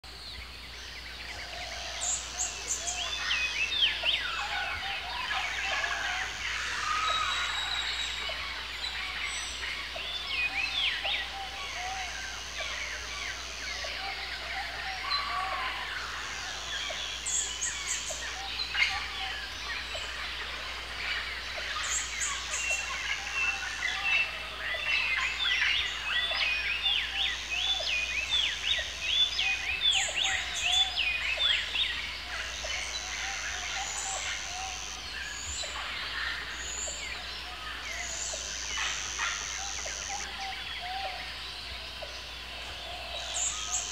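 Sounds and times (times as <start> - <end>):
chorus of birds calling: 0.0 - 43.9.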